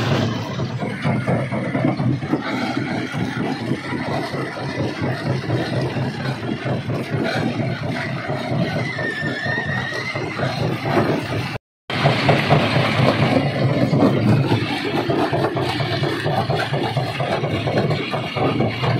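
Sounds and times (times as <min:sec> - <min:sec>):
machinery engine drone: 0:00.0 - 0:18.9.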